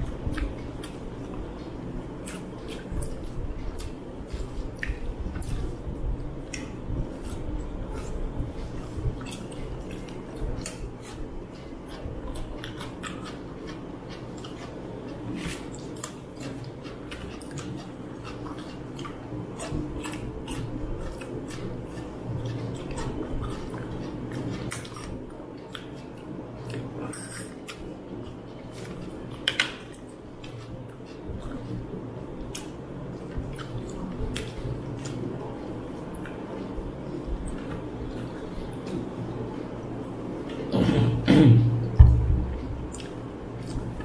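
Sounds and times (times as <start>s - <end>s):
fingers mixing wet food: 0.0s - 27.0s, 27.6s - 40.7s, 41.8s - 44.0s
chewing: 0.0s - 44.0s
low steady hum: 0.0s - 44.0s.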